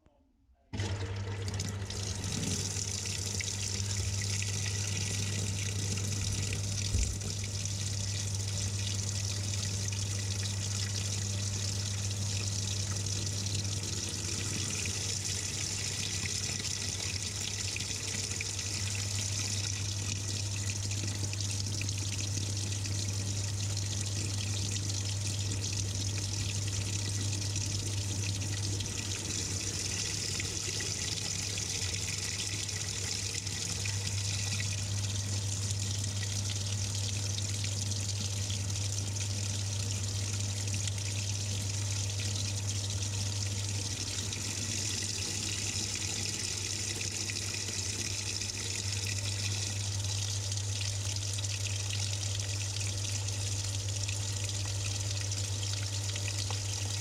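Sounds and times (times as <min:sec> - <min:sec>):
water pouring into washing machine: 0:00.8 - 0:57.0.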